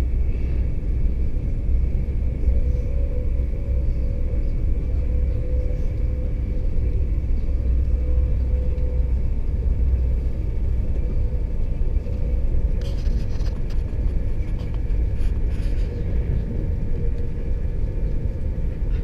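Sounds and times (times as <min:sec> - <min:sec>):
faint steady hum: 0:00.0 - 0:19.0
train coach rumbling on rails: 0:00.0 - 0:19.0.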